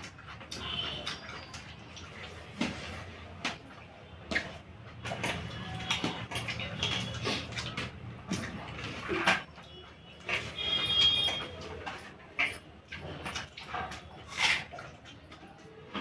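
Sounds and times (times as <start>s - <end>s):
fingers mixing food on steel plate: 0.0s - 16.0s.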